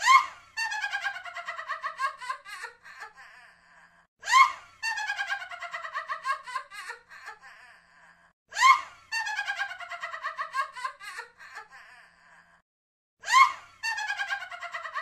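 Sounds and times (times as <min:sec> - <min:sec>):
witch's cackling laugh: 0:00.0 - 0:03.6, 0:04.3 - 0:12.6, 0:13.3 - 0:15.0.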